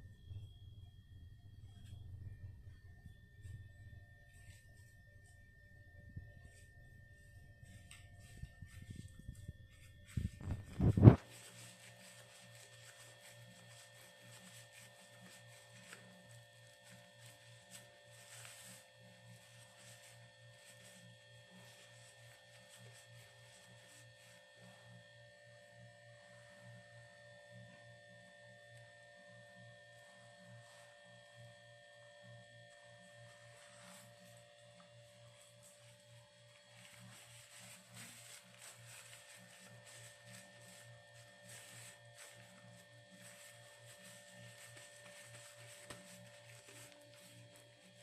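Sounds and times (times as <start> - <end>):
faint electrical hum: 0.0 - 48.0.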